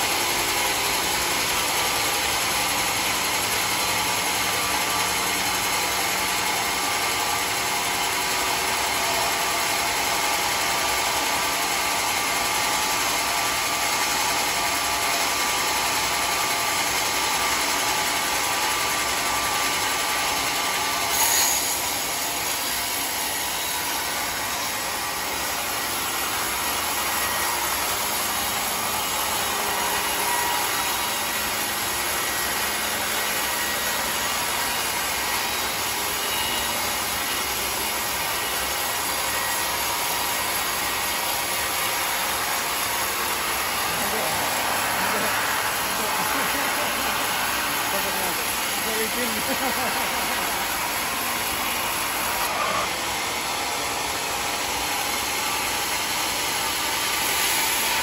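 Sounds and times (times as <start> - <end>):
band saw whirring through wood: 0.0 - 58.0.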